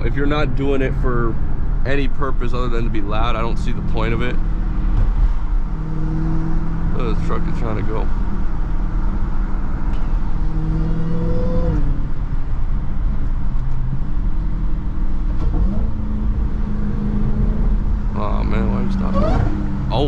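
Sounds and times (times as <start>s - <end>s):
car engine with supercharger whine: 0.0s - 20.0s.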